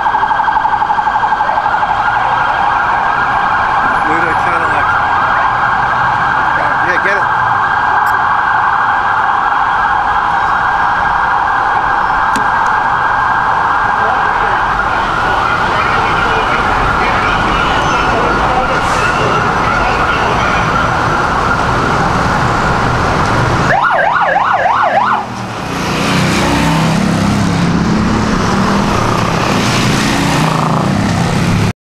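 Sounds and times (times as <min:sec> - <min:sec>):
siren yelp: 0:00.0 - 0:30.0
dense loud noise: 0:00.0 - 0:31.7
emergency sirens wailing: 0:00.0 - 0:31.7.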